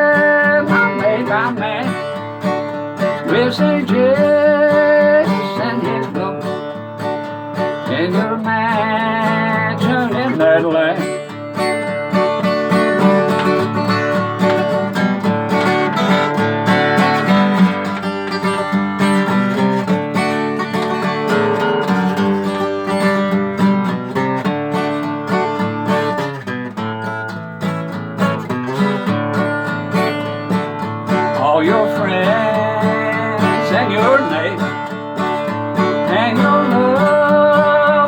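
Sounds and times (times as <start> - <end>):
acoustic guitar strummed and picked: 0.0 - 38.0.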